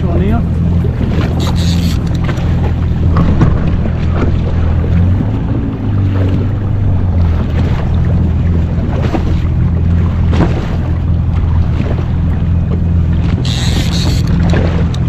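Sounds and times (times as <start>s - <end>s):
jet ski engine running: 0.0s - 15.0s
water splashing along hull: 0.0s - 15.0s
wind buffeting microphone: 0.0s - 15.0s.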